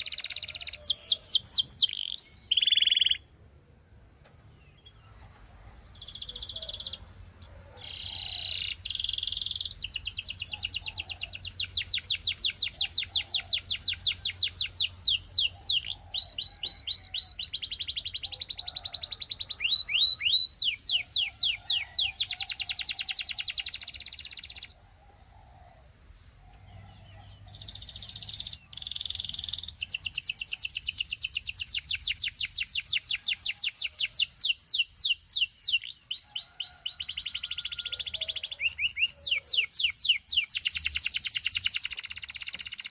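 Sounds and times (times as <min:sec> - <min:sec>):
canary singing trills: 0:00.0 - 0:03.4, 0:04.4 - 0:24.8, 0:26.3 - 0:42.9.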